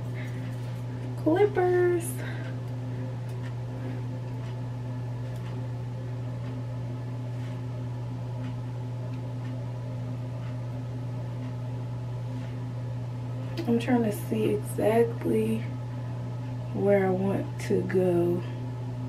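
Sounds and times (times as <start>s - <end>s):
exhaust fan humming: 0.0s - 19.0s.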